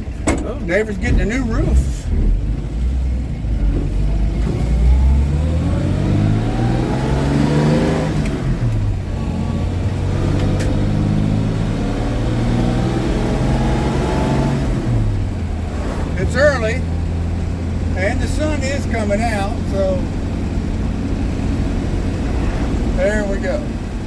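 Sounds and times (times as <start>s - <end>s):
truck engine pulling through gears: 0.0s - 24.0s.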